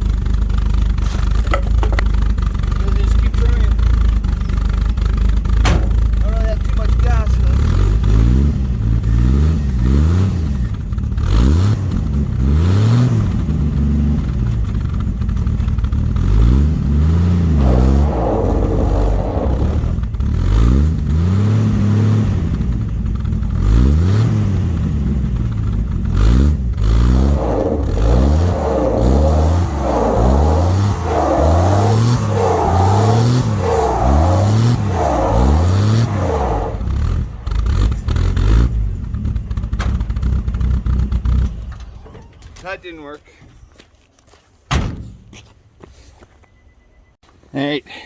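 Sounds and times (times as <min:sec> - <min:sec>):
truck engine revving: 0:00.0 - 0:41.8.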